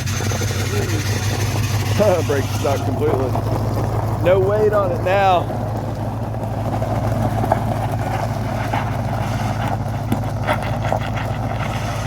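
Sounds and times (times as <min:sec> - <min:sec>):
faint engine ticks and knocks: 0:00.0 - 0:12.0
truck engine idling: 0:00.0 - 0:12.0.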